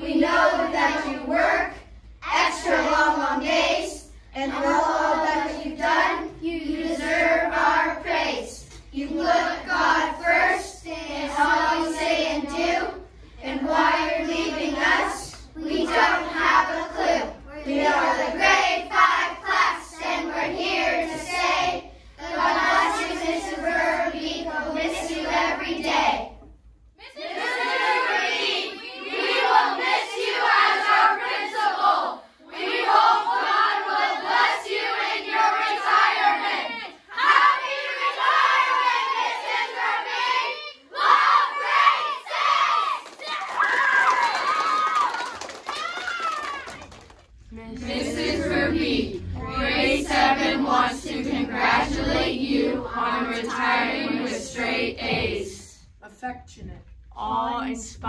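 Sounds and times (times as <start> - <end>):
children singing together: 0.0 - 26.4, 27.0 - 43.0, 47.5 - 55.8.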